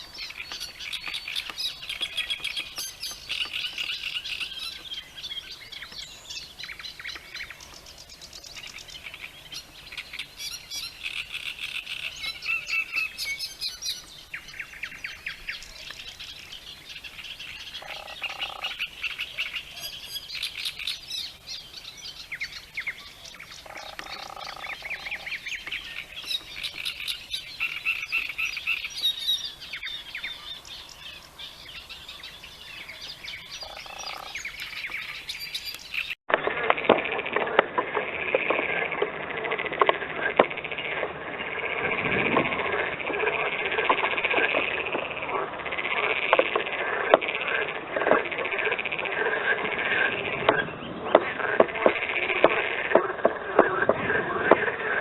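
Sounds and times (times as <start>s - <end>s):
birds chirping: 0.0s - 55.0s
frogs trilling: 0.0s - 55.0s.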